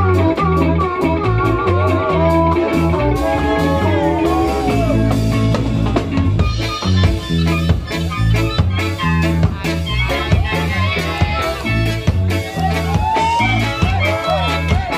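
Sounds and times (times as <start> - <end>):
live ska band playing: 0.0 - 14.9.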